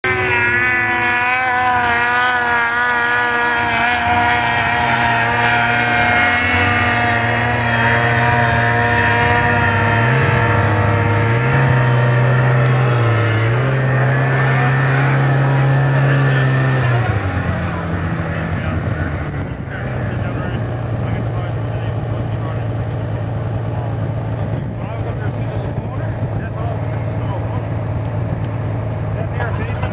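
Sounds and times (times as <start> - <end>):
low hum stepping in pitch: 0.0 - 29.9
snowmobile engines revving: 0.0 - 29.9.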